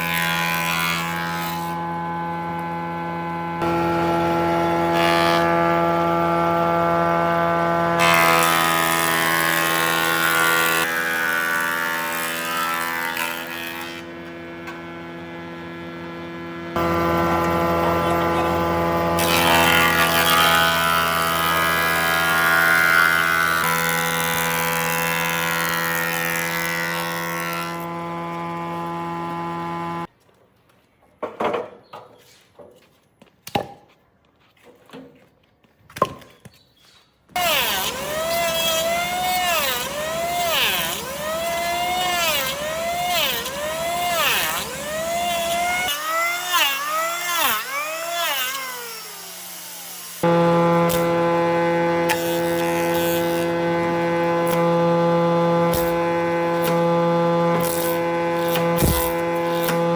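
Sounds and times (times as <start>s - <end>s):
woodworking power tool running: 0.0s - 30.1s, 37.3s - 59.9s.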